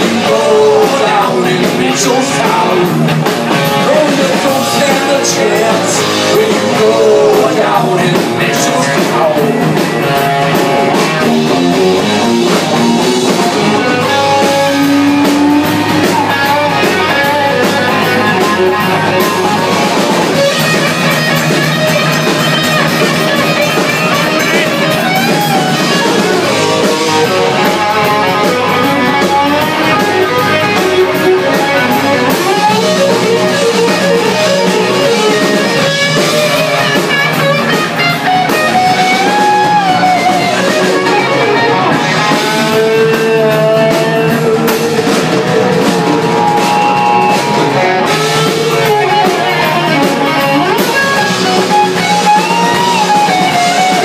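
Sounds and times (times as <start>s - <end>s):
bass and drums: 0.0s - 54.0s
electric guitar lead: 0.0s - 54.0s.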